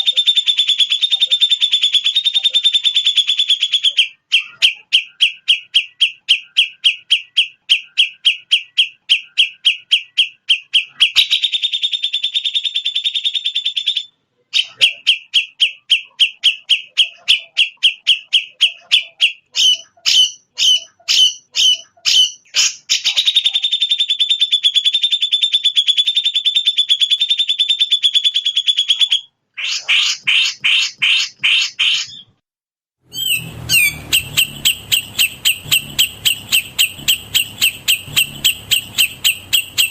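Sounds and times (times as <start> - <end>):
songbird chirps and trills: 0.0 - 30.6, 33.1 - 39.9.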